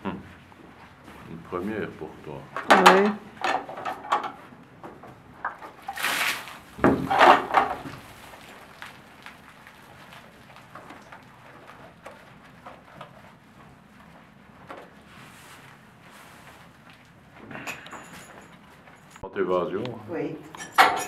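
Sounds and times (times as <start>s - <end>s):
faint knocks and rustling: 0.3s - 19.2s.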